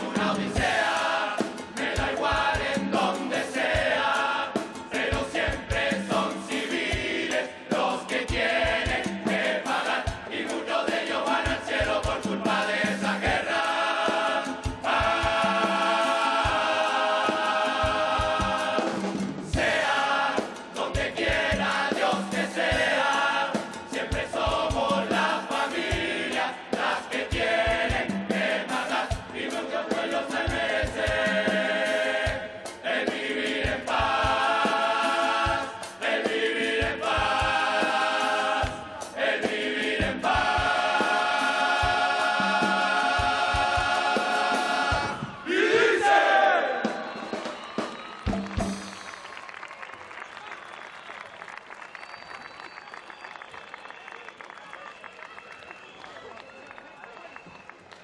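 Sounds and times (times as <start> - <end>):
male chorus singing: 0.0 - 47.3.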